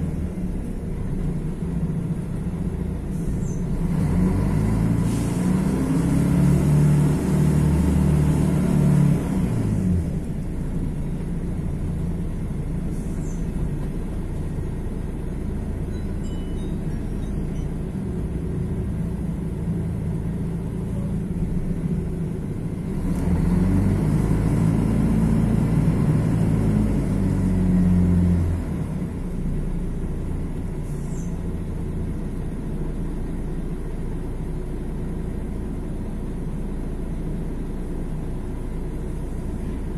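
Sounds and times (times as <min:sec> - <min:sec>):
bus diesel engine pulling: 0:00.0 - 0:39.9.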